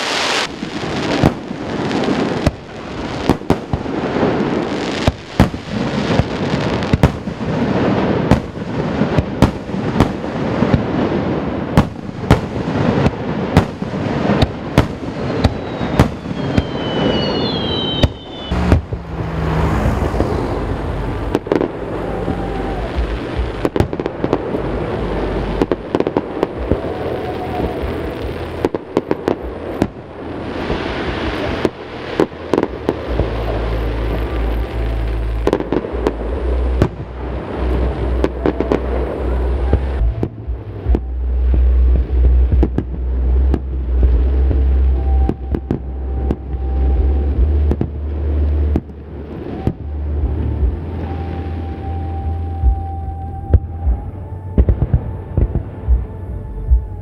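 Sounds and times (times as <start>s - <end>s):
fireworks bangs: 0.0s - 57.0s
fireworks crackling: 0.0s - 57.0s
deep rumble: 0.4s - 57.0s.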